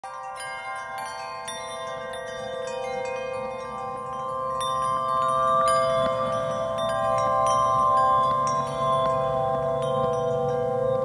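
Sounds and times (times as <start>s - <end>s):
chime-like bell notes: 0.0s - 11.0s.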